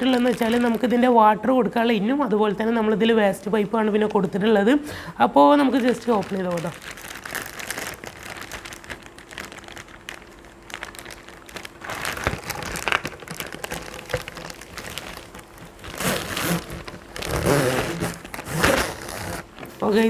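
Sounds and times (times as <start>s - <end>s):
plastic packaging crinkling: 0.0s - 1.4s, 2.1s - 20.0s.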